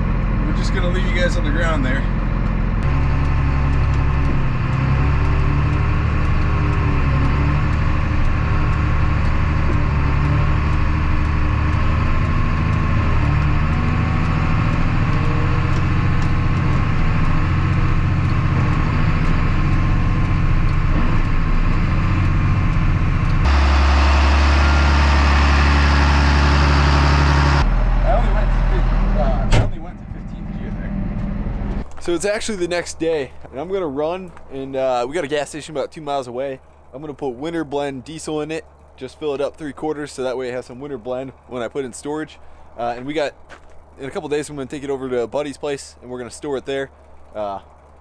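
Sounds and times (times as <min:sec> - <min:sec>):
faint ticking: 0:00.0 - 0:23.5, 0:31.2 - 0:48.0
tractor diesel engine running: 0:00.0 - 0:48.0.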